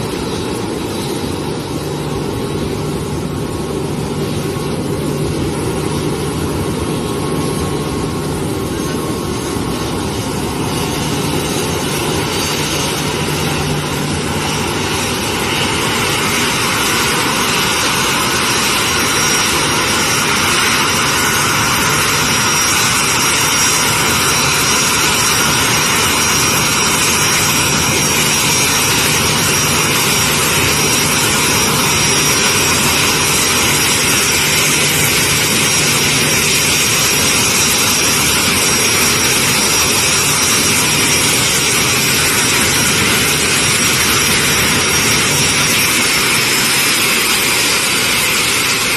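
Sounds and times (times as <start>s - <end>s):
high steady whine: 0.0s - 48.9s
jet engines rushing: 0.0s - 48.9s.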